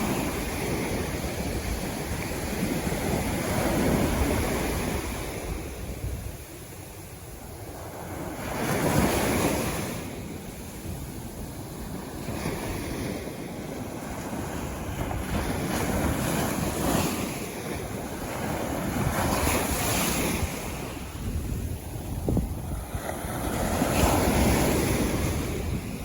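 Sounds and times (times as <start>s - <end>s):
sea waves breaking on beach: 0.0s - 26.0s
wind noise on microphone: 0.0s - 26.0s.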